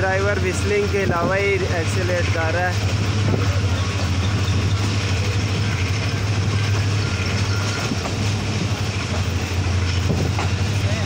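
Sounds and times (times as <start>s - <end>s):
diesel engine drone: 0.0s - 11.0s
train wheels on rails: 0.0s - 11.0s.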